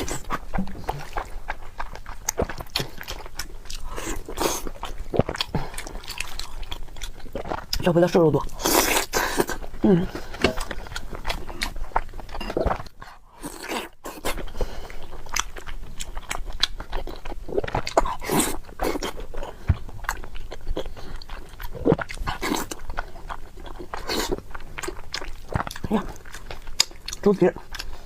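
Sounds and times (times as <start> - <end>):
close-miked chewing: 0.0 - 28.0.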